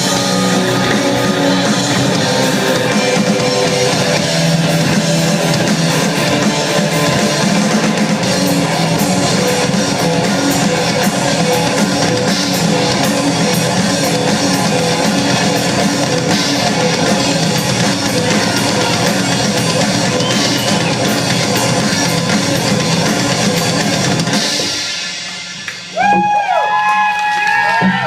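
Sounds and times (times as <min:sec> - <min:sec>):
audience cheering and shouting: 0:00.0 - 0:24.3, 0:25.8 - 0:28.0
rock band playing: 0:00.0 - 0:26.5.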